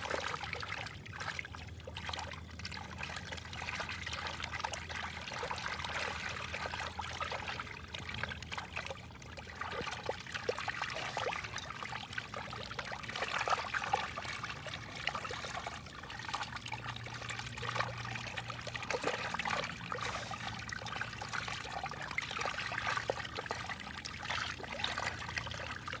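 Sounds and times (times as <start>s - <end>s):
low steady hum: 0.0s - 26.0s
water trickling: 0.0s - 26.0s.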